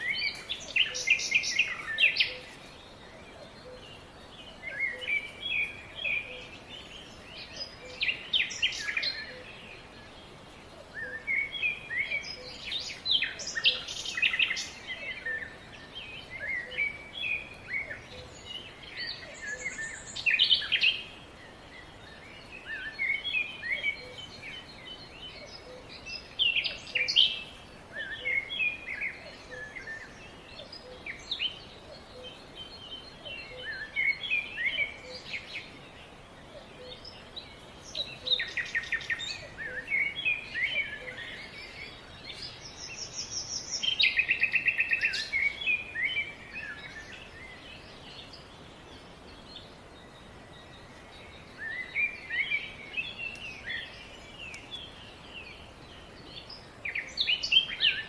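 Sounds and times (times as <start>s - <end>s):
background hiss: 0.0s - 58.0s
small birds chirping: 0.0s - 58.0s.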